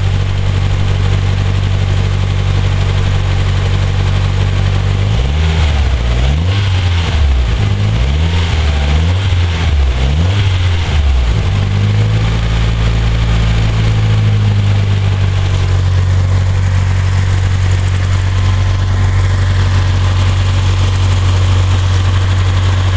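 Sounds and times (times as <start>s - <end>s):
car engine revving and idling: 0.0s - 22.9s
engine knocking: 0.0s - 22.9s.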